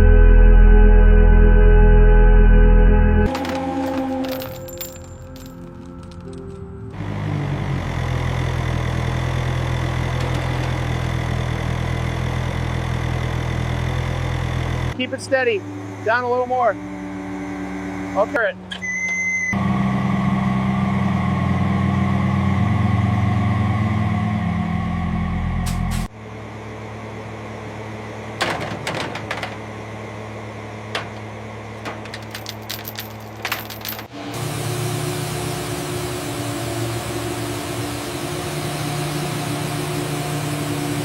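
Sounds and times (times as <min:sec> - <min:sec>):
heavy machinery engine droning: 0:01.7 - 0:41.0.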